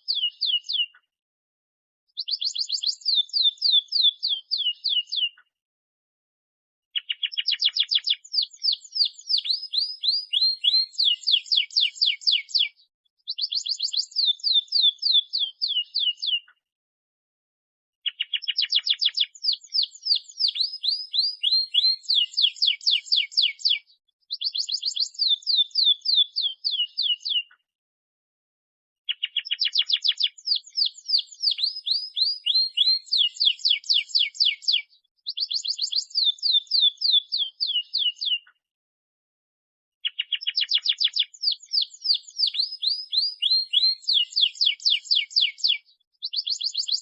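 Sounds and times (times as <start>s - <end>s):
canary singing trills: 0.0s - 1.0s, 2.2s - 5.4s, 7.0s - 16.6s, 18.0s - 27.6s, 29.1s - 38.6s, 40.0s - 47.0s.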